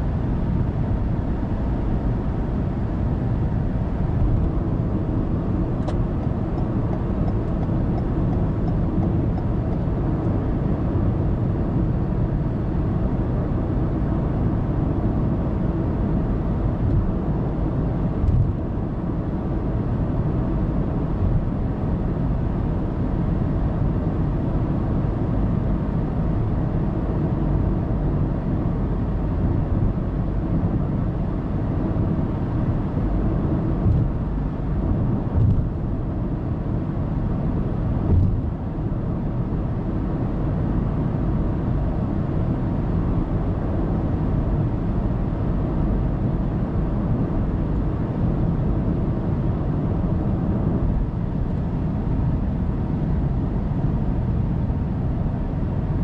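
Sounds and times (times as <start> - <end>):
car road noise from inside cabin: 0.0 - 56.0.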